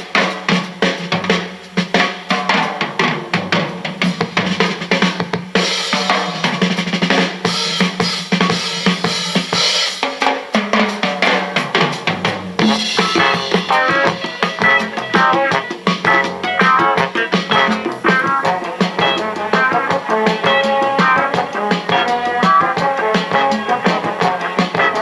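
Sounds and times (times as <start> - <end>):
drum-heavy music from speakers: 0.0 - 25.0.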